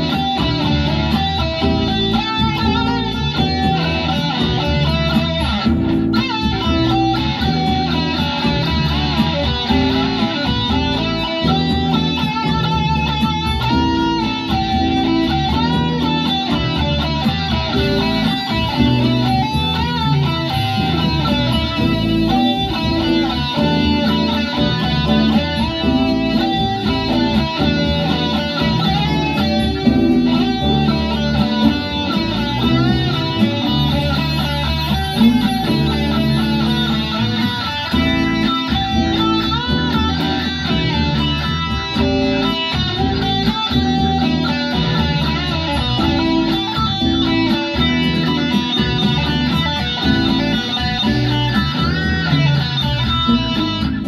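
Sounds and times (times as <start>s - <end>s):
electric guitar with bent notes: 0.0s - 54.0s.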